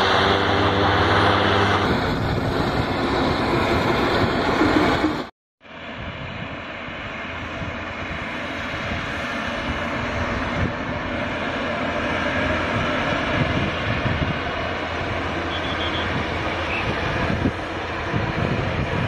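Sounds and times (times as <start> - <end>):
propeller plane engines running: 0.0 - 19.0.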